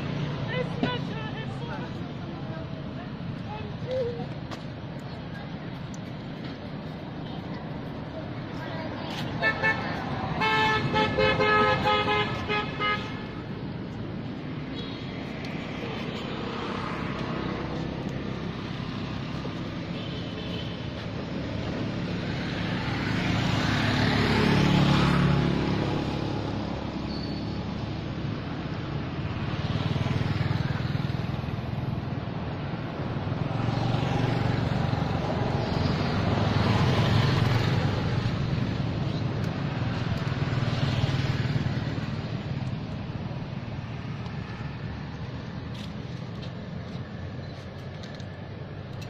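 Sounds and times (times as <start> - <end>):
vehicles passing: 0.0 - 49.0.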